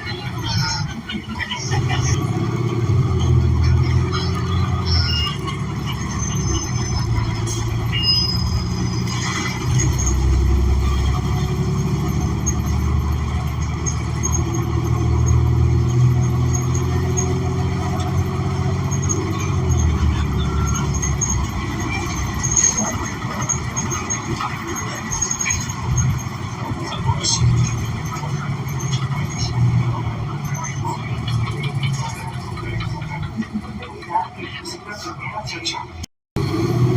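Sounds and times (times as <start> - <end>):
bus engine pulling away: 0.0 - 36.9.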